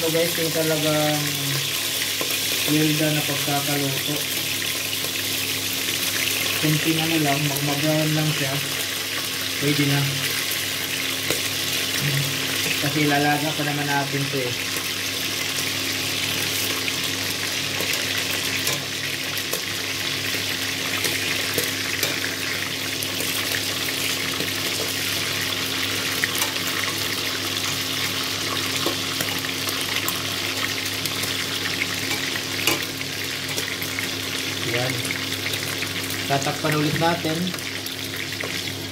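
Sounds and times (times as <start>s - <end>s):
meat sizzling in hot oil: 0.0s - 38.9s.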